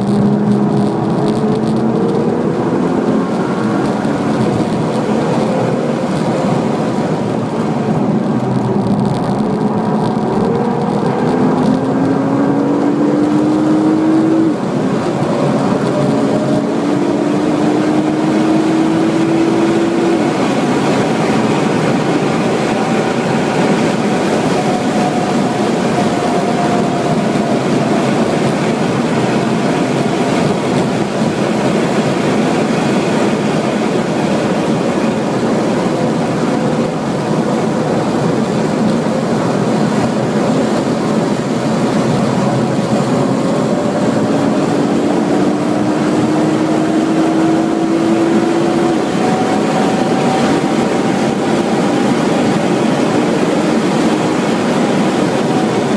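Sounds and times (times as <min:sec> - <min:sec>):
car engine accelerating hard: 0:00.0 - 0:55.9
wind and tyre noise: 0:00.0 - 0:55.9.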